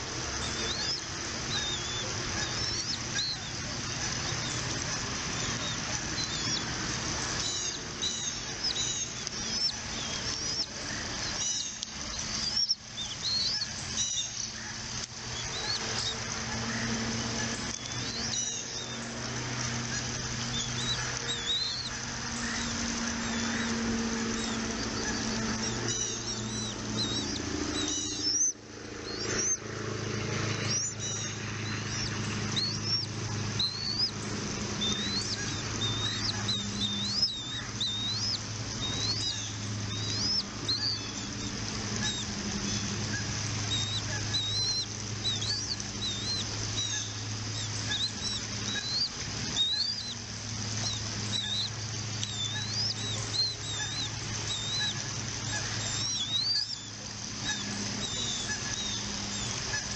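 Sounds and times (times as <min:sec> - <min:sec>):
birds chirping: 0:00.0 - 0:59.9
steady low hum: 0:00.0 - 0:59.9.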